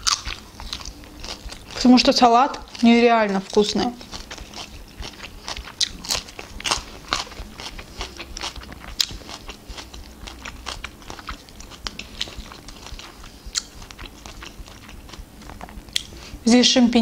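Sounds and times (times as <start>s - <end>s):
chewing crunchy salad: 0.0s - 16.4s.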